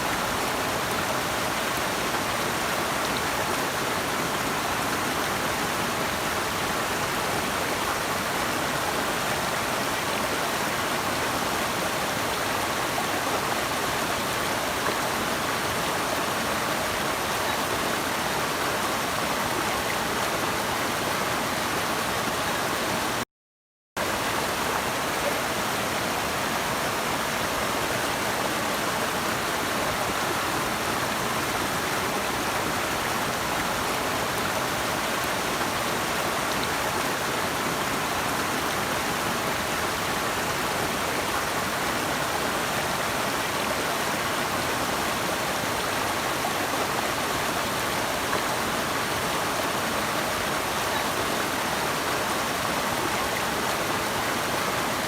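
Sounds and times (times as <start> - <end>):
rushing water: 0.0 - 23.2, 24.0 - 55.0.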